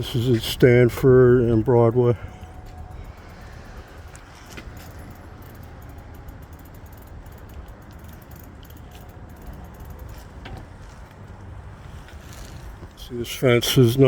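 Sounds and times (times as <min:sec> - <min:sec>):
light clicks and rattles: 0:00.0 - 0:13.1
distant traffic: 0:00.0 - 0:14.0.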